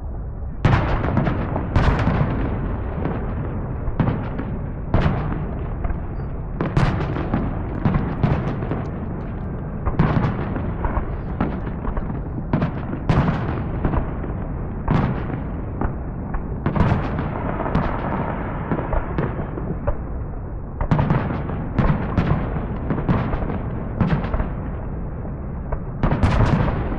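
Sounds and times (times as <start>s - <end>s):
fireworks bangs and booms: 0.0s - 26.9s
rumble and crackle of fireworks: 0.0s - 26.9s.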